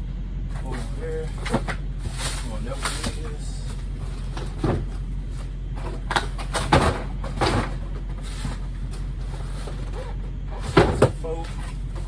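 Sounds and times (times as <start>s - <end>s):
steady low hum: 0.0s - 12.0s
cardboard boxes knocking and scuffing: 0.5s - 12.0s.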